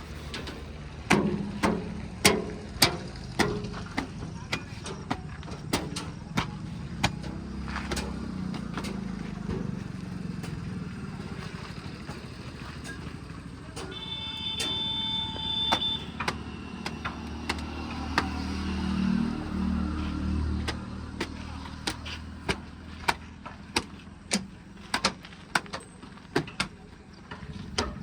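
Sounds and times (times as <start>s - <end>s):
diesel machinery running: 0.0s - 28.0s
sharp metal knocks and clanks: 0.0s - 28.0s.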